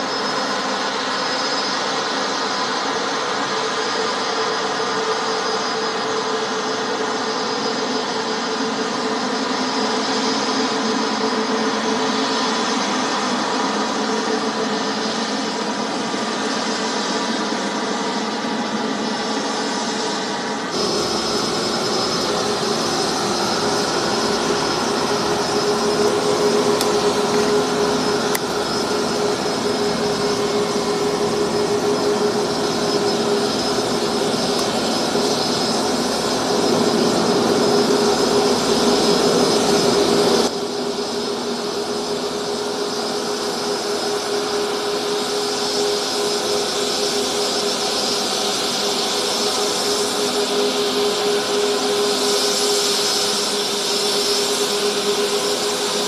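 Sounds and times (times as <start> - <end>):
jet engines rushing with whine: 0.0 - 56.0.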